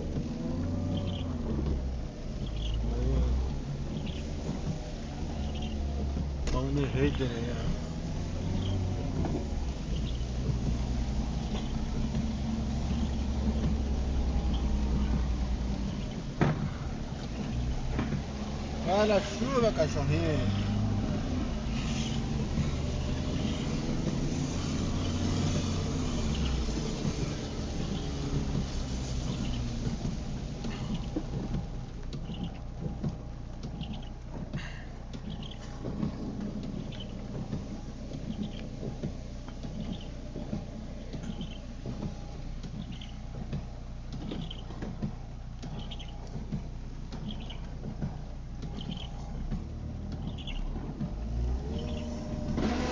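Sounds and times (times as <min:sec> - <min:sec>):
car engine hum: 0:00.0 - 0:52.9
rain hiss: 0:00.0 - 0:52.9
small rattles and knocks: 0:00.0 - 0:52.9
wet road noise: 0:00.0 - 0:52.9
windshield wiper squeaking: 0:00.0 - 0:52.9.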